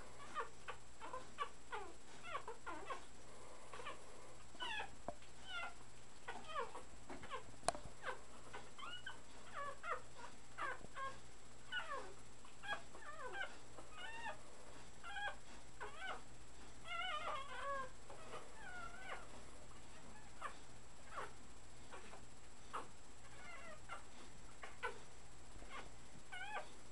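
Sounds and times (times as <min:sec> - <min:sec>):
puppies whimpering and squeaking: 0:00.2 - 0:03.1, 0:04.6 - 0:16.2, 0:16.8 - 0:25.0, 0:25.6 - 0:26.7.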